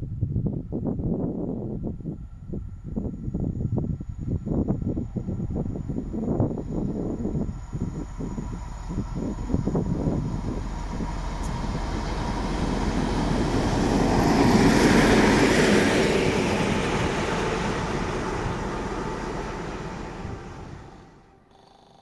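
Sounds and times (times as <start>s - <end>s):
diesel locomotive passing: 1.7s - 21.6s.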